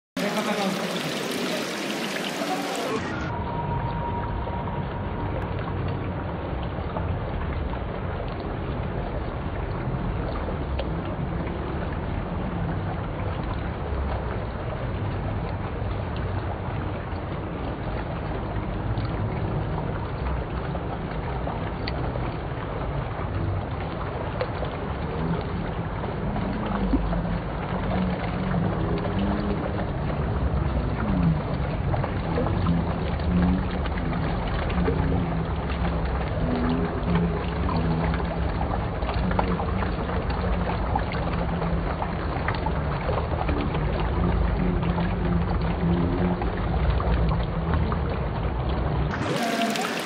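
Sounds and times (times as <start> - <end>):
fountain water splashing: 0.2 - 50.0.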